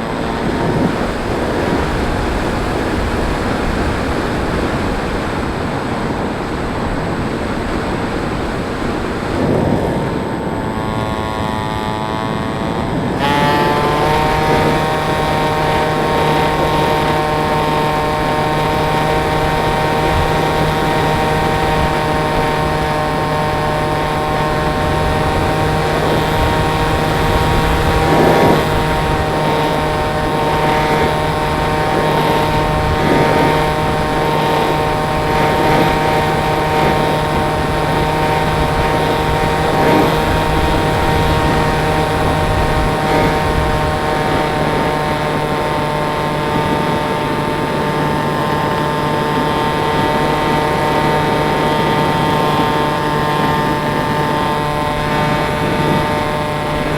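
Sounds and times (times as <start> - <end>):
motor and propeller whine: 0.0 - 56.9
rushing wind noise: 0.0 - 56.9.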